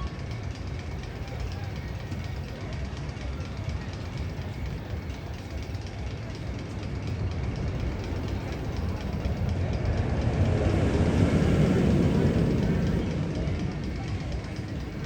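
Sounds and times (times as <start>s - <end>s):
roller coaster rumbling on track: 0.0s - 15.0s.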